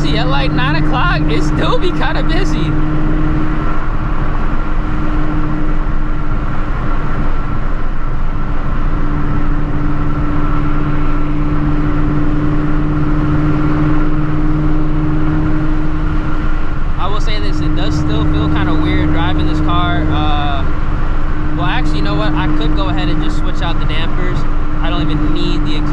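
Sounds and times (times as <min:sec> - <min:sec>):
car engine drone: 0:00.0 - 0:25.9
road noise: 0:00.0 - 0:25.9.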